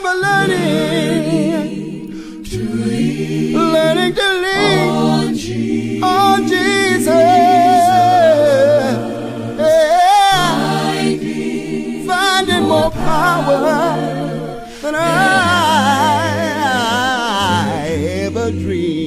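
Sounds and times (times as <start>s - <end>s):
a cappella gospel singing: 0.0s - 19.0s.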